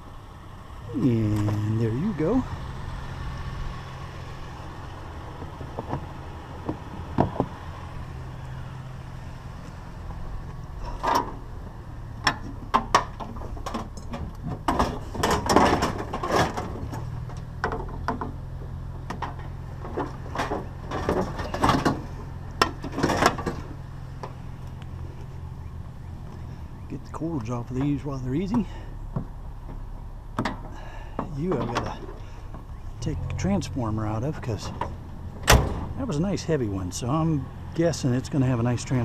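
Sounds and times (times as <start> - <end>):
truck engine idling: 0.0 - 39.0
metal knocks clunks and rattles: 5.0 - 7.9, 9.6 - 39.0.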